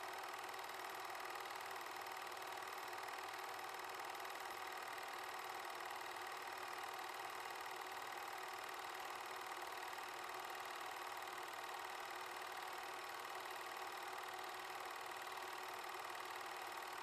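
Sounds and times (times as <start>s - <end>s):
film projector whirring and clattering: 0.0s - 17.0s.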